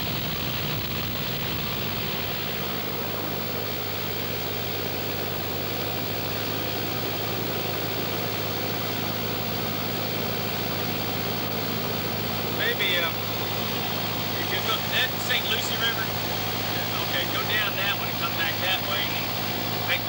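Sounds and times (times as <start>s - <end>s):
light aircraft engine humming: 0.0s - 20.0s.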